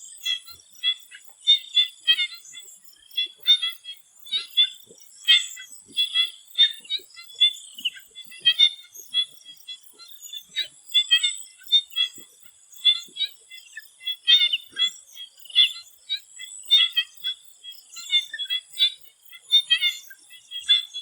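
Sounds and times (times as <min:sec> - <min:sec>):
frogs calling in chorus: 0:00.0 - 0:21.0.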